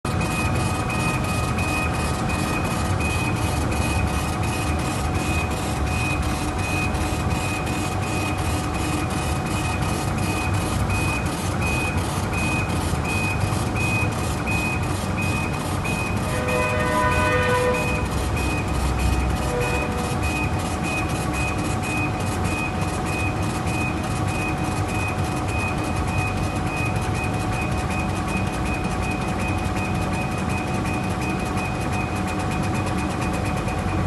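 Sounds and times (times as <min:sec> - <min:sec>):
machine low hum: 0:00.1 - 0:34.0.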